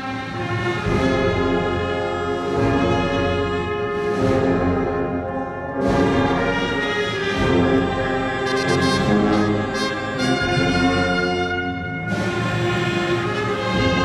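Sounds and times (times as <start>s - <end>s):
brass music with held chords: 0.0s - 14.0s.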